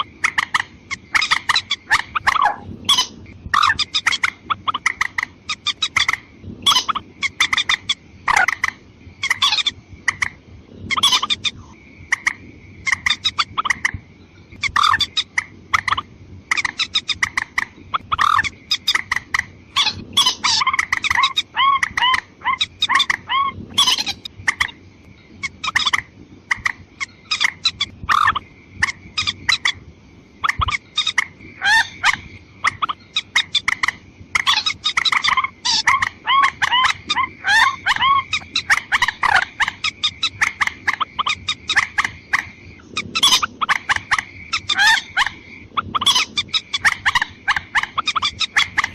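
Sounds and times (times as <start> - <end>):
bird clucking calls: 0.0 - 29.8, 30.4 - 48.9.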